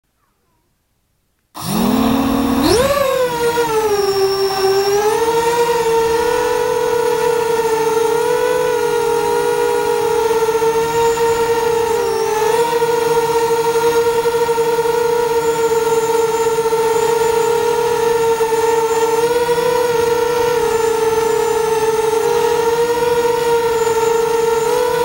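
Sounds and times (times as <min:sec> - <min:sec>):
quadcopter motors whining: 0:01.6 - 0:25.0.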